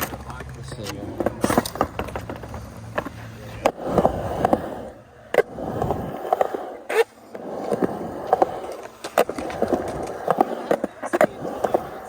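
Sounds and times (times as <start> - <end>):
skateboard clacks: 0.0 - 12.0
skateboard wheels rolling: 0.0 - 12.0.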